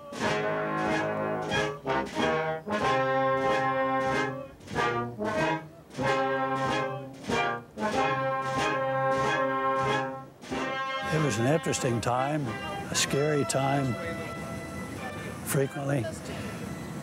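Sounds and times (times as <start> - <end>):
brass instruments playing chords: 0.0 - 15.9.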